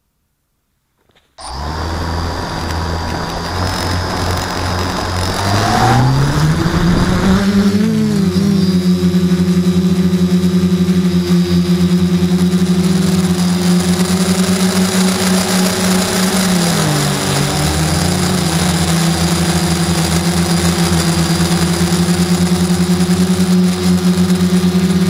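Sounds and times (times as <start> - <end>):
quadcopter propellers humming: 1.4 - 25.0.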